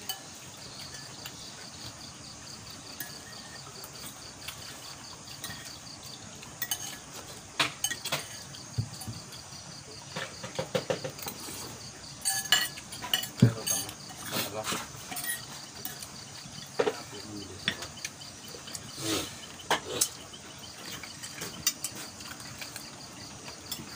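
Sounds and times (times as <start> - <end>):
spoons clinking on plates: 0.0 - 1.4, 2.9 - 9.5, 10.1 - 23.9
night insects trilling: 0.0 - 23.9.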